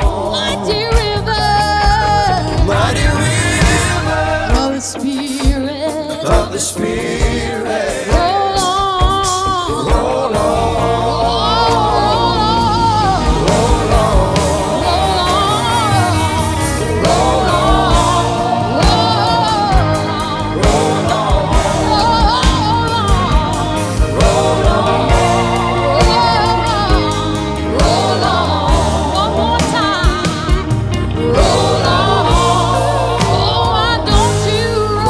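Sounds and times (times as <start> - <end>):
band with bass and drums: 0.0 - 35.0
singers holding long notes: 0.0 - 35.0.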